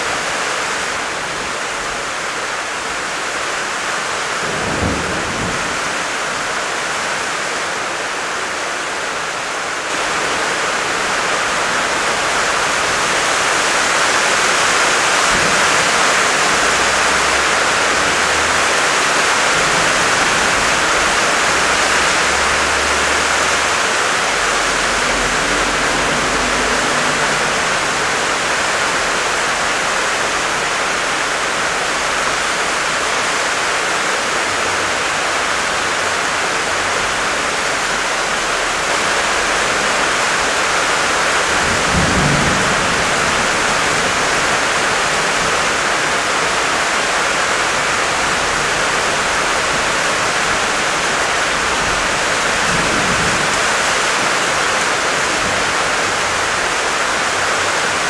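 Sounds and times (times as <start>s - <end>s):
heavy rain on pavement: 0.0s - 58.0s
water running over ground: 7.7s - 58.0s.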